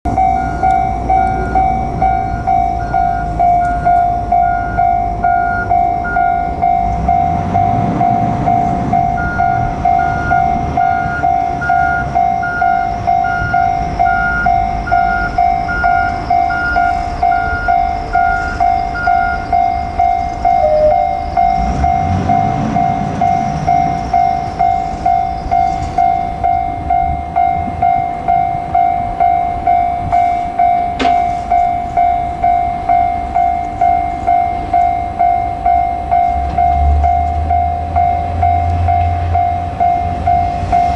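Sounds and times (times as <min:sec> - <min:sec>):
level crossing alarm bell: 0:00.1 - 0:40.9.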